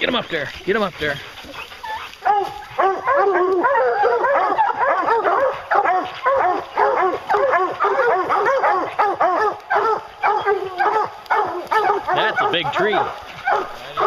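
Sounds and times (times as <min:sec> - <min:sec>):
pack of hounds barking: 0:00.0 - 0:14.0.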